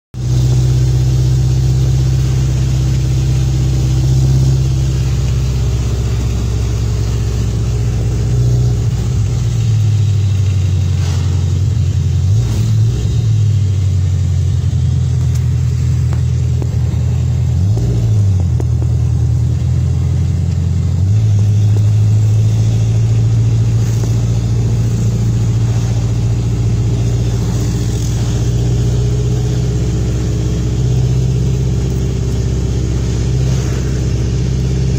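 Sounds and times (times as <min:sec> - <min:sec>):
jeep engine running: 0:00.1 - 0:34.9.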